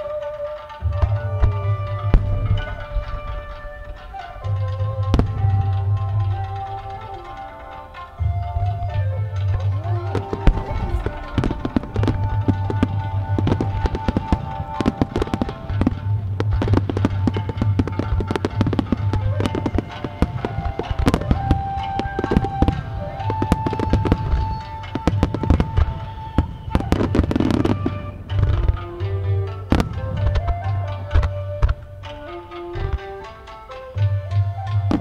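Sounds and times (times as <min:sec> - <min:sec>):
fireworks bursting: 0:00.7 - 0:35.0.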